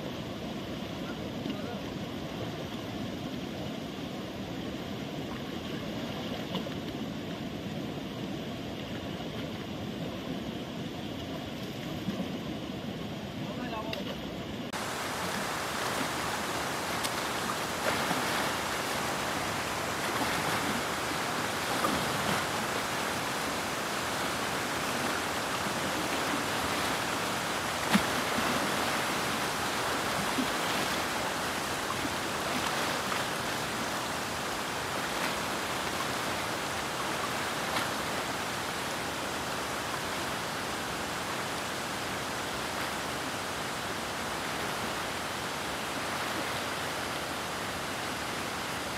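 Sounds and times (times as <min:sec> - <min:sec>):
river flowing: 0:00.0 - 0:48.9.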